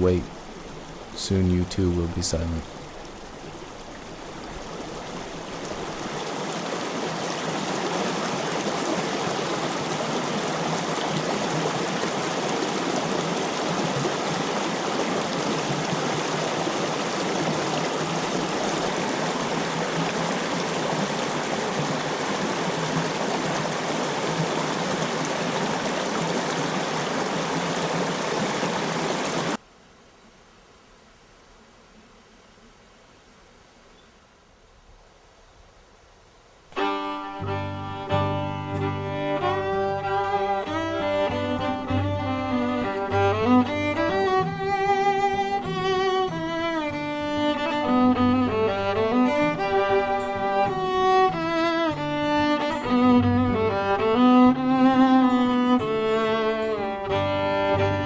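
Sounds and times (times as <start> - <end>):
stream water running over rocks: 0.0 - 29.6, 36.7 - 58.0.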